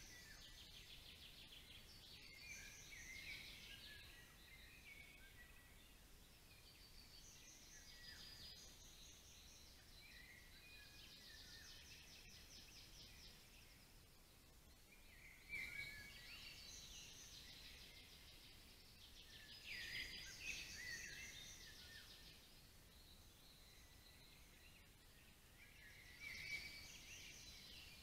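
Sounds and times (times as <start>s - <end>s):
songbirds singing and trilling: 0.0s - 28.0s.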